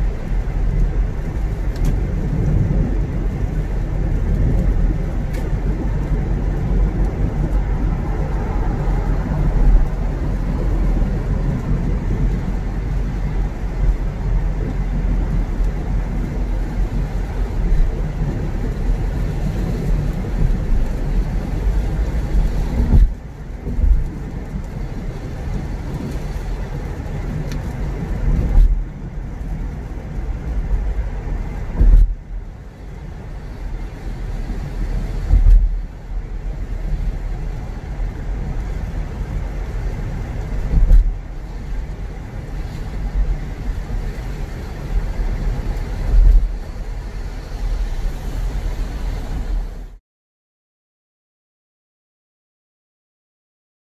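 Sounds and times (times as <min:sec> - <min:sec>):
road and tyre noise: 0:00.0 - 0:50.0.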